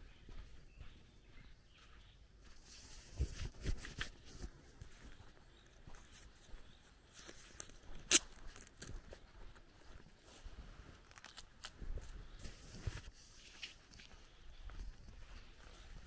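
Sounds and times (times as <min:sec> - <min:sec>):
footsteps on grassy dirt path: 0:00.0 - 0:16.0.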